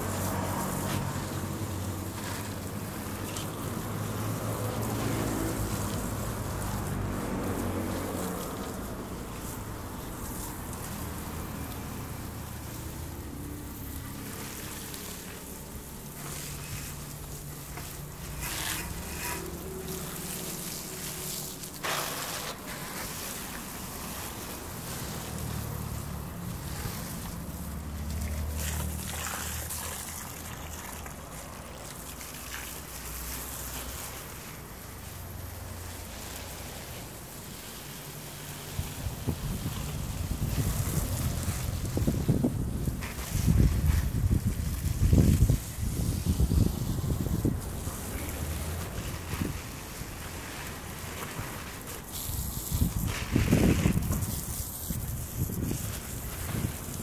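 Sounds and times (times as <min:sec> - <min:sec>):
garden hose spraying water: 0:00.0 - 0:57.0.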